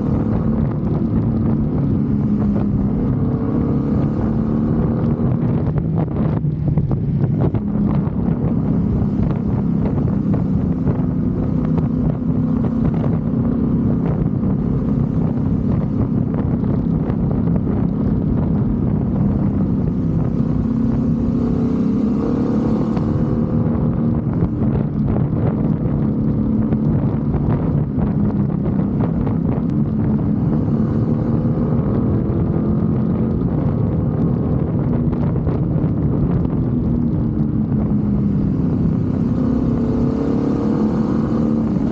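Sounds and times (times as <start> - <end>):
motorcycle engine revving: 0.0 - 41.9
wind noise on microphone: 0.0 - 41.9.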